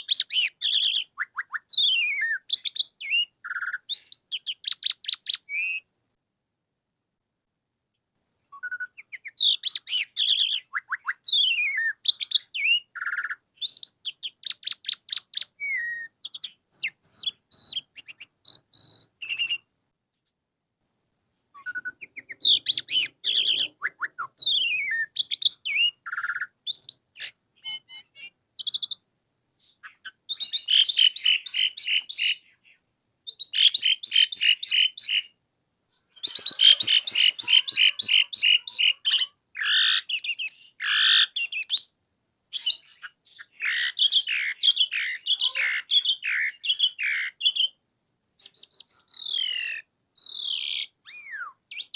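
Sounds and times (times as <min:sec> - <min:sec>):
starling singing: 0:00.0 - 0:05.9, 0:08.5 - 0:19.7, 0:21.6 - 0:29.0, 0:29.6 - 0:35.4, 0:36.1 - 0:47.8, 0:48.4 - 0:51.9.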